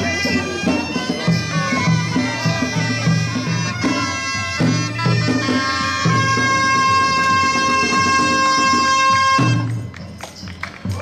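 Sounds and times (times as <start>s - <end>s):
bagpipes playing a folk melody: 0.0s - 9.9s
steady drum beat: 0.0s - 11.0s.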